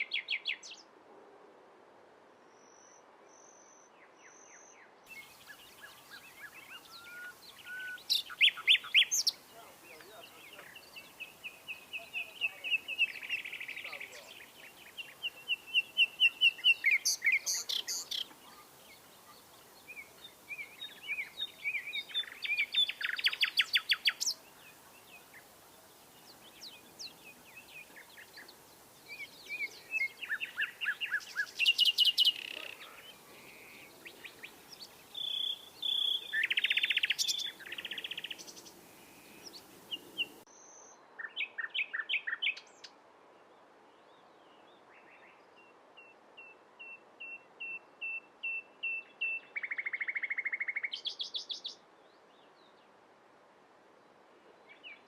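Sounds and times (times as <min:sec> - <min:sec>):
nightingale singing: 0:00.0 - 0:00.9, 0:02.6 - 0:43.0, 0:44.9 - 0:51.8.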